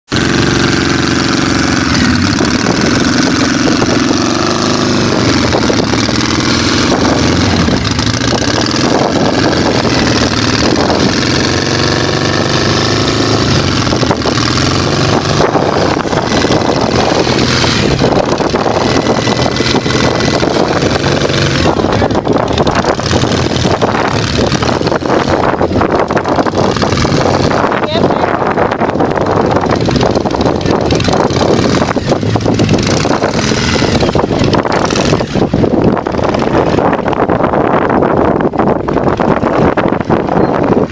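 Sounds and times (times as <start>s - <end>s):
off-road vehicle engine under load: 0.0s - 40.9s.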